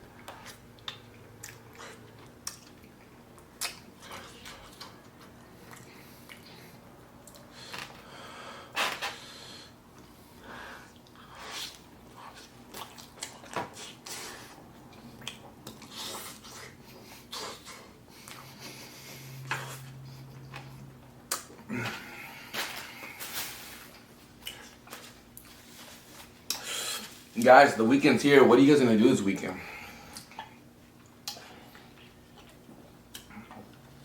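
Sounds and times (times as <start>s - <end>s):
person chewing with wet mouth sounds: 0.0s - 8.0s, 9.9s - 23.2s, 23.9s - 27.2s, 29.8s - 34.0s.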